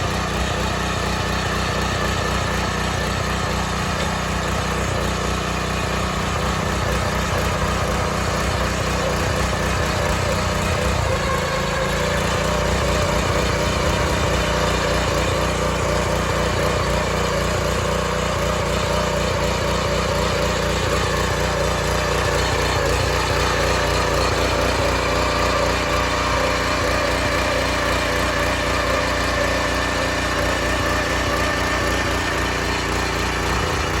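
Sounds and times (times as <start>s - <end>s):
garden tiller engine running: 0.0s - 34.0s.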